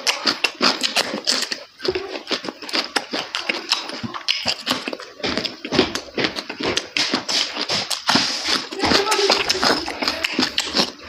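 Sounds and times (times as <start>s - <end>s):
person chewing food: 0.0s - 11.0s
wet lip-smacking: 0.0s - 11.0s.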